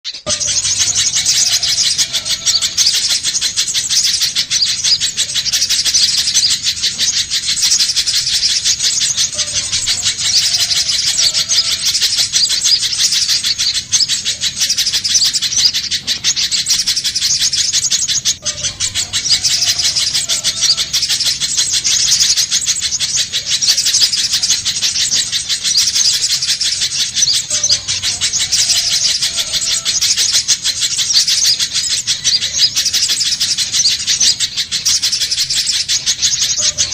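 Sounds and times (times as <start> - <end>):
bird high-pitched chipping calls: 0.0 - 36.9.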